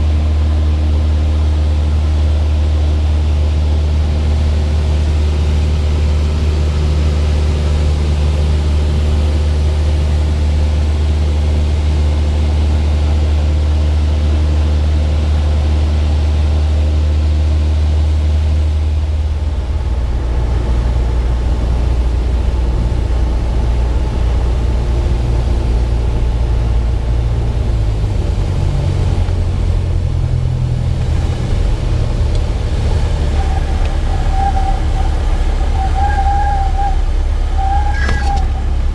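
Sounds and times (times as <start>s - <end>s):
aircraft engine drone: 0.0s - 38.9s
high engine whine: 0.0s - 38.9s.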